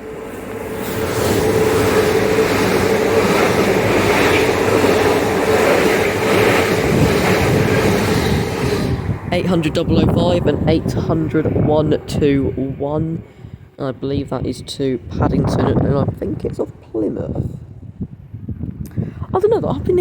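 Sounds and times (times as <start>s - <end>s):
steady hum: 0.0s - 17.6s
train passing with wheel rush: 0.0s - 18.3s.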